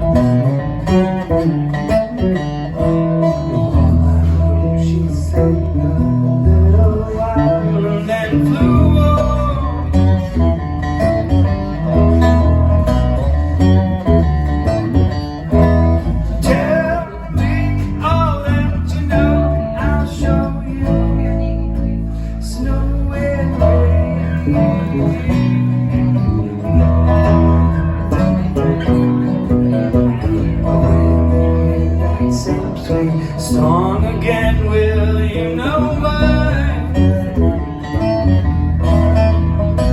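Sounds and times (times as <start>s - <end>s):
live band with guitar and bass: 0.0s - 39.9s.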